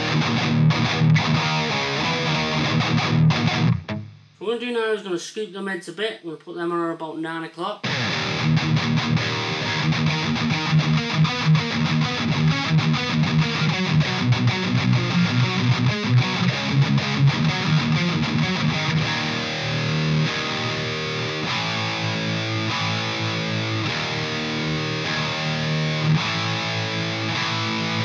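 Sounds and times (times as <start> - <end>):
distorted electric guitar riffing: 0.0 - 4.5, 7.8 - 28.0.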